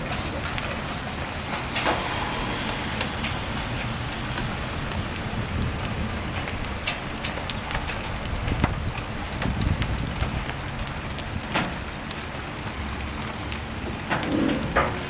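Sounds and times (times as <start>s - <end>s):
hail ticking: 0.0s - 15.0s
rain hissing: 0.0s - 15.0s.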